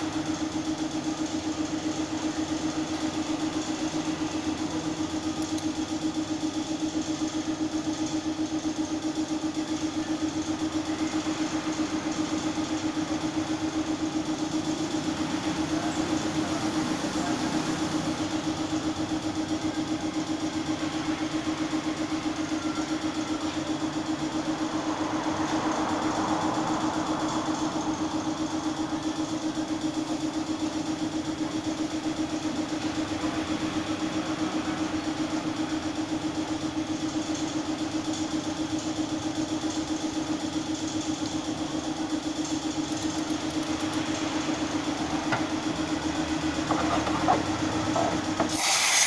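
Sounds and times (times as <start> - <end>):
car engine idling: 0.0 - 48.6.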